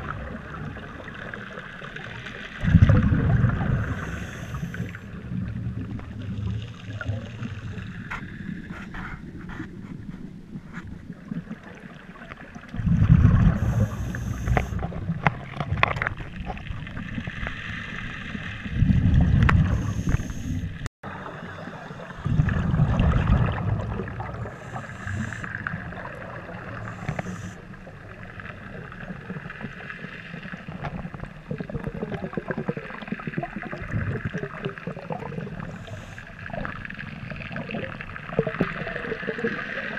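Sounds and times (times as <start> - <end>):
exhaled bubbles rumbling: 0.0 - 39.9
water hiss and gurgle: 0.0 - 39.9.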